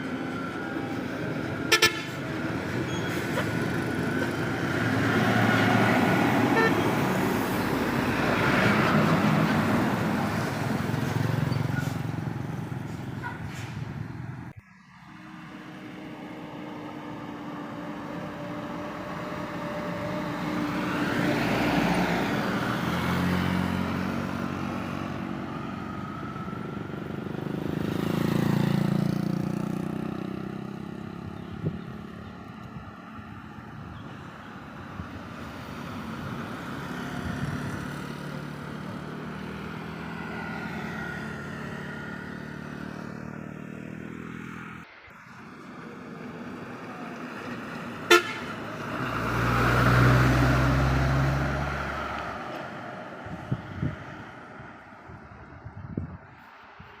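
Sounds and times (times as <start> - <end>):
heavy vehicles driving past: 0.0 - 57.0
tyre and road noise: 0.0 - 57.0.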